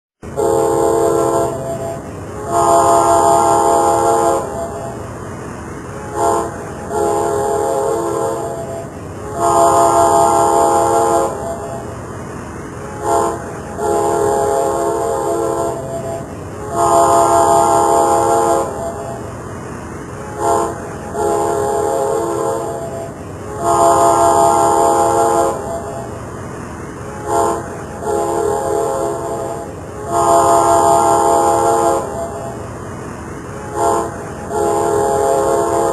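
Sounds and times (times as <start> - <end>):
train horn blasts: 0.2 - 5.1, 5.8 - 12.0, 12.8 - 19.3, 20.2 - 26.2, 27.1 - 32.7, 33.6 - 35.9
moving train rumble: 0.2 - 35.9.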